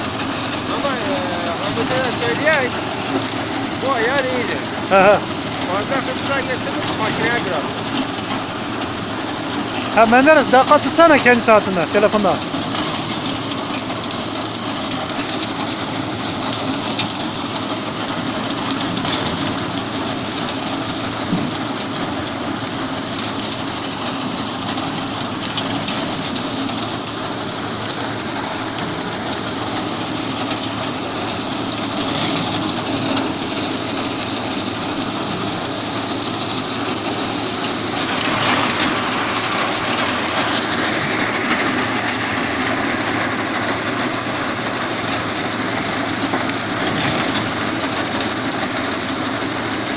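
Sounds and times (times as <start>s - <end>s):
tractor engine: 0.0s - 49.9s.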